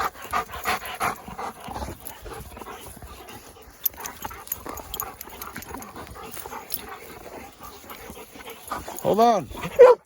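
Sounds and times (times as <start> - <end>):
dogs moving about: 0.0 - 10.0.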